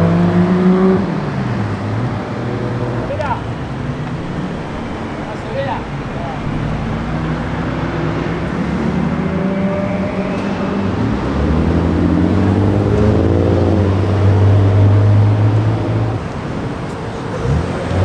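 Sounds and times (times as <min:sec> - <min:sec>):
car engine droning at low revs: 0:00.0 - 0:18.0.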